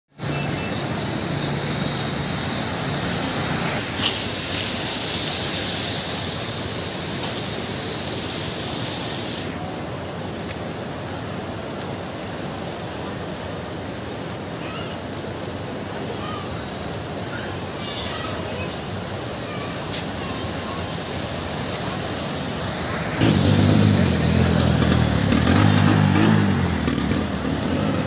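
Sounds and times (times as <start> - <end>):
traffic on flooded street: 0.1 - 28.0.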